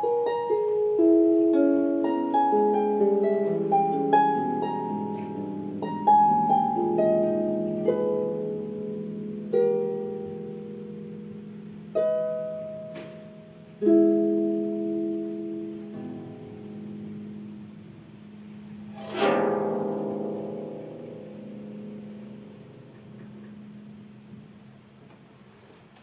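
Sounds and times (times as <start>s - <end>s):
harp playing: 0.0s - 25.0s.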